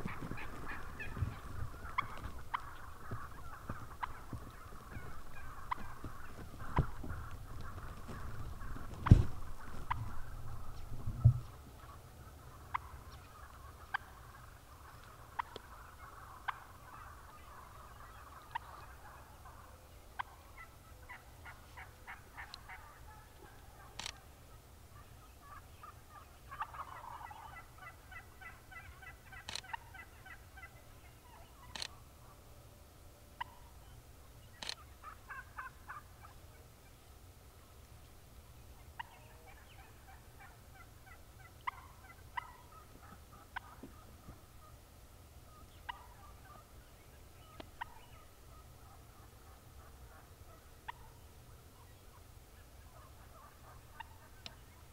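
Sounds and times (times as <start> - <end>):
wild turkeys gobbling: 0.0 - 32.6, 33.4 - 54.9.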